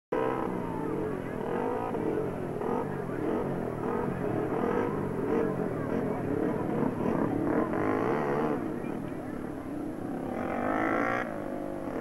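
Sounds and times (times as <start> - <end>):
motorcycle engines revving: 0.1 - 12.0.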